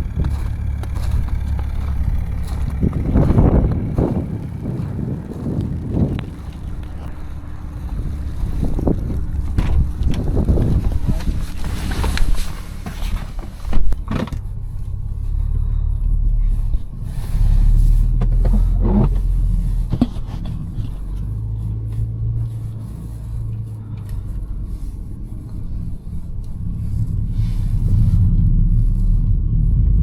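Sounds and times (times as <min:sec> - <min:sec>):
car exhaust rumble: 0:00.0 - 0:30.0.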